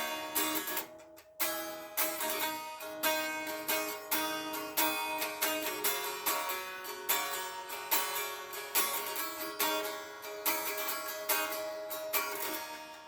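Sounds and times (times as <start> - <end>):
guitar playing chords: 0.0 - 13.0.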